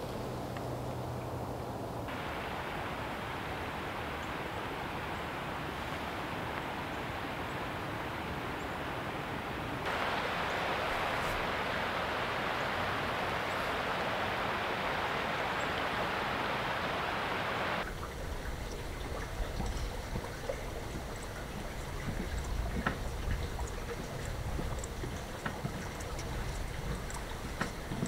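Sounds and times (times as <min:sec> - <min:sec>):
river water rushing: 0:00.0 - 0:28.0
water running over rocks: 0:02.1 - 0:28.0.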